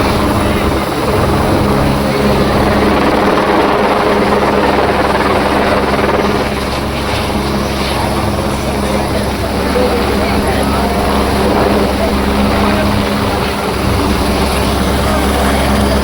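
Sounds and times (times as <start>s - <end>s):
helicopter rotor and engine: 0.0s - 16.0s.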